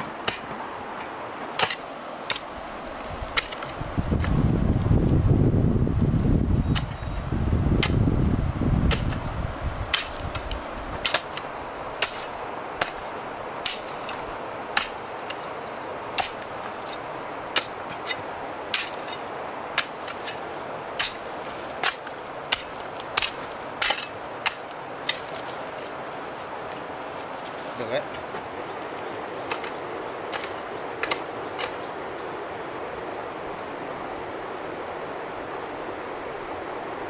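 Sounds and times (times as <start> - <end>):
background hiss: 0.0 - 37.0.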